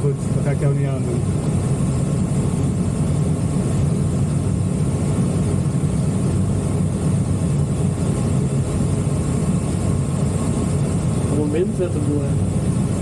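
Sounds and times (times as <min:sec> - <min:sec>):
rushing airflow in glider cockpit: 0:00.0 - 0:13.0.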